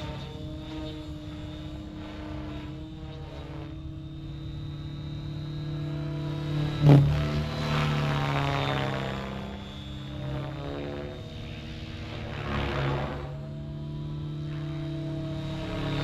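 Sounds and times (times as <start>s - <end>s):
helicopter rotor hum: 0.0s - 16.0s
high motor whine: 0.0s - 16.0s.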